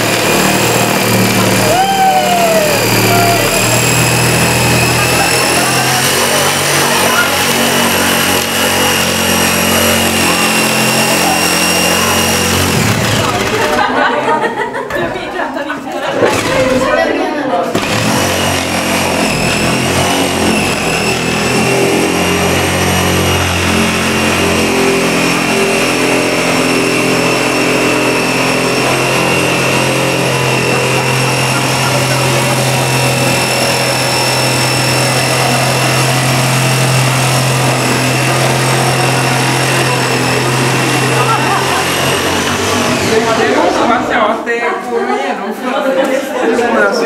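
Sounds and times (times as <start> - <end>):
electric motor whining: 0.0 - 14.1, 16.2 - 44.4.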